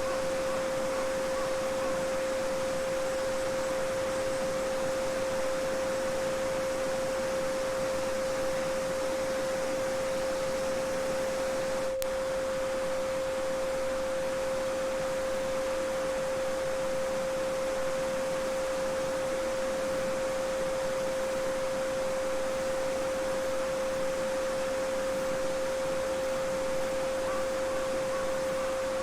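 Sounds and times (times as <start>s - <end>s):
steady sine tone: 0.0s - 29.0s.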